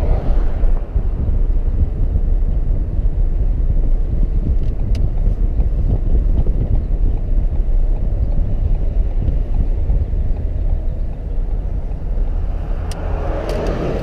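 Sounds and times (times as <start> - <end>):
car road noise: 0.0 - 14.0
wind buffeting microphone: 0.0 - 14.0.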